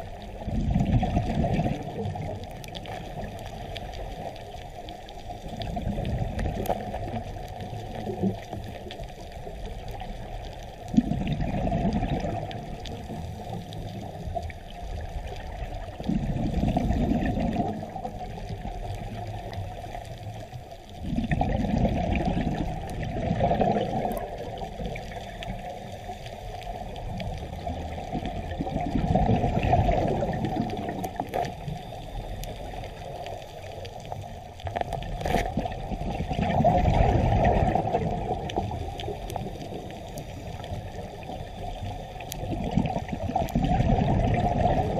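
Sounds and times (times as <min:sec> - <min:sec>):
diver's exhaled bubbles rumbling: 0:00.0 - 0:44.9
steady underwater hiss: 0:00.0 - 0:44.9.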